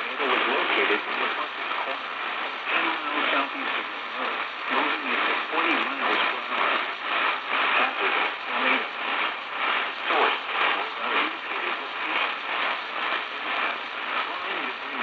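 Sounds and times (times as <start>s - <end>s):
radio hiss and static: 0.0s - 15.0s
tinny radio voice: 0.0s - 15.0s.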